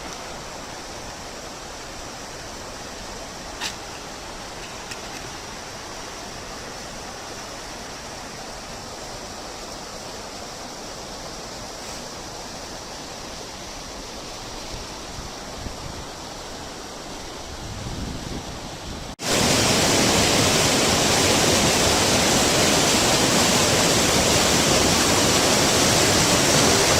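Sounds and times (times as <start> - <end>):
river rushing over stones: 0.0 - 26.9.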